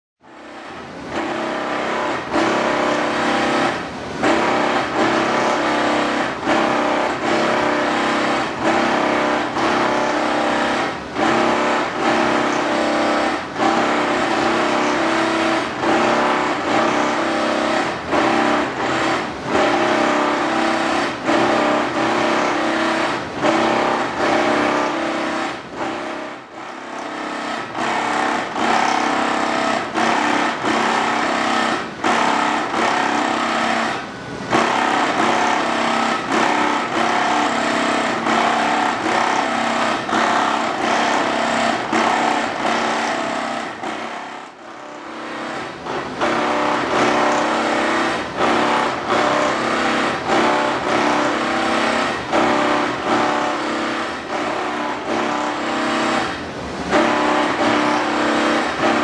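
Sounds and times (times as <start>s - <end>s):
riveting machine running: 0.2s - 59.0s.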